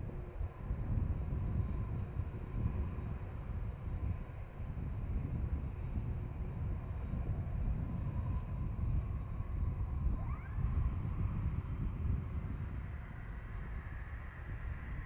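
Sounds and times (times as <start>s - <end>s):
jet engine rumble and whine: 0.0s - 15.0s.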